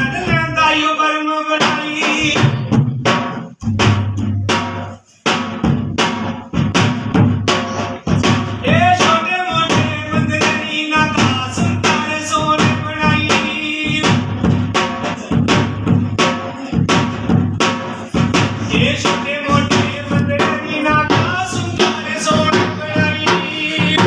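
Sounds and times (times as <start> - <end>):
barrel drum beaten by hand: 0.0 - 0.9, 1.5 - 24.0.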